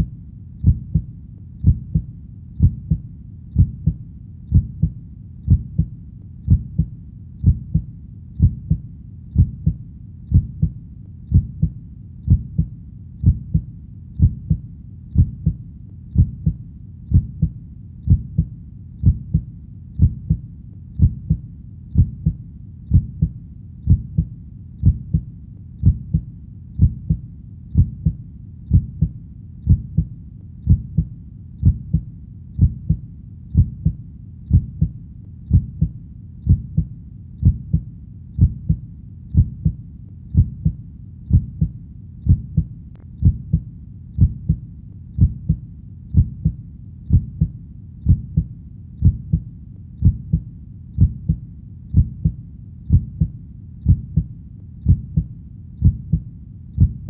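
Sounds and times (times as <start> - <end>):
heartbeat double thumps: 0.0 - 57.0.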